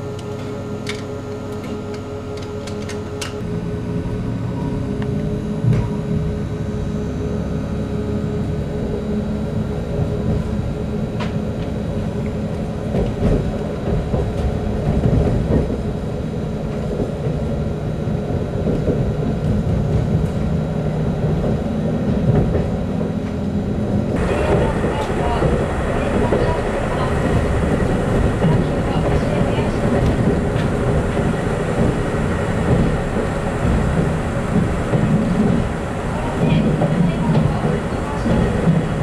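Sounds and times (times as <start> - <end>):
diesel engine drone: 0.0 - 39.0
wheel and rail noise: 0.0 - 39.0.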